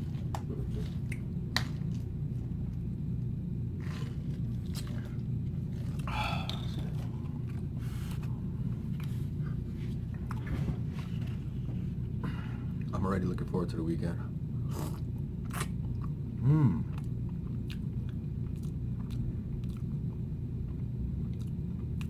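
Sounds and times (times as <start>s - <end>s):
person chewing food: 0.0s - 12.9s, 14.6s - 22.0s.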